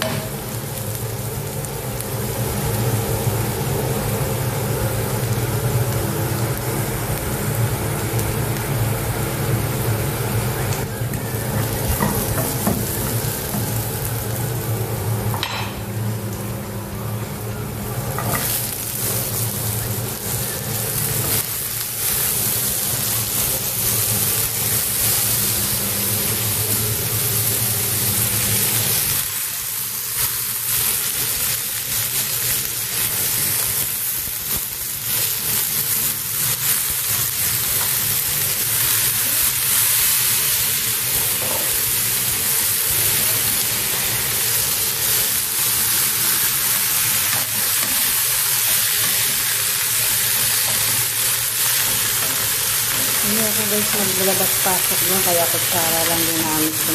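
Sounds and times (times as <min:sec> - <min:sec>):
food sizzling in a pan: 0:00.0 - 0:56.9.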